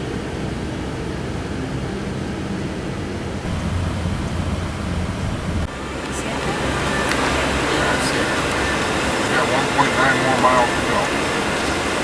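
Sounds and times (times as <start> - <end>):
car engine hum: 0.0 - 12.0
road noise hiss: 0.0 - 12.0.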